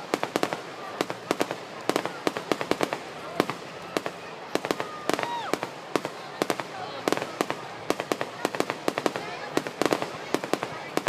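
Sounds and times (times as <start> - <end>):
fireworks popping and cracking: 0.0 - 11.0.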